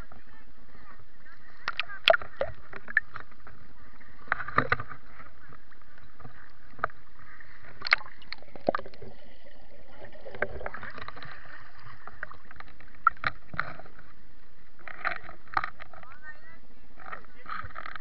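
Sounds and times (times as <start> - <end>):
water sloshing and splashing: 1.6 - 16.1.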